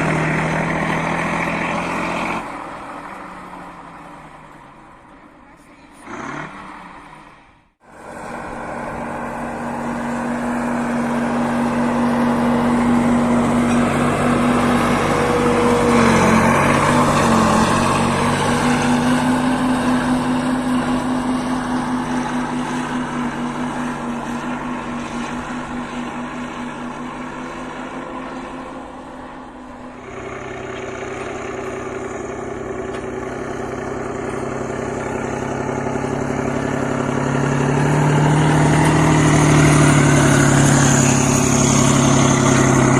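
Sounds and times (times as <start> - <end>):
heavy diesel tractor engine: 0.0 - 42.9
lower diesel engine: 0.0 - 42.9.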